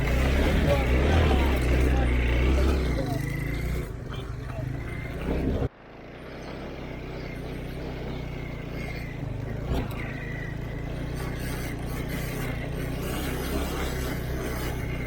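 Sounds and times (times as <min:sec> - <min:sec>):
vehicle engine idling: 0:00.0 - 0:13.2.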